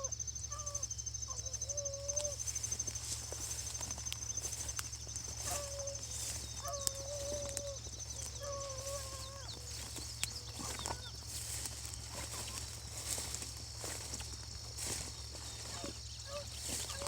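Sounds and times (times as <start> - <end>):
hounds baying in the distance: 0.0 - 17.0.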